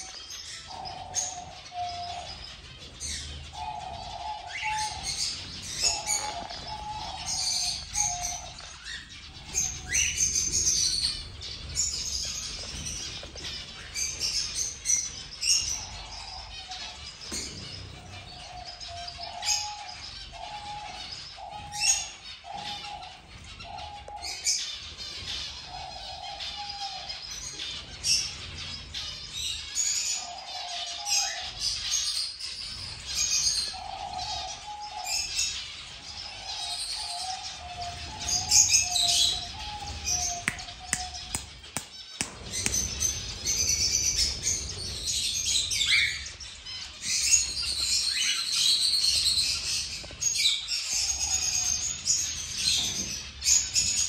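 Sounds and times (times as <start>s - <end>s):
finches chirping and calling: 0.0s - 54.0s.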